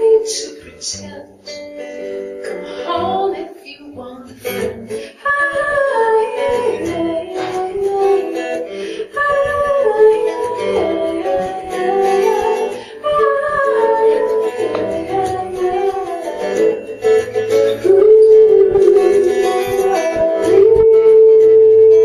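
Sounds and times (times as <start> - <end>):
woman singing: 0.0 - 1.6, 2.4 - 22.0
fingerpicked acoustic guitar: 0.0 - 22.0.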